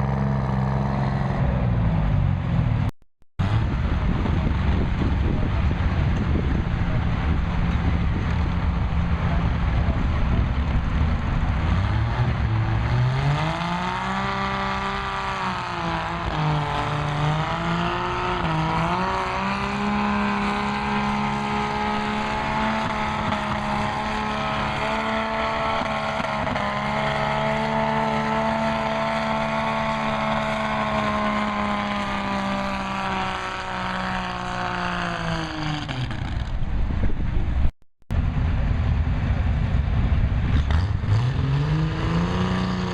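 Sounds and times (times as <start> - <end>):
tractor engine revving: 0.0 - 42.9.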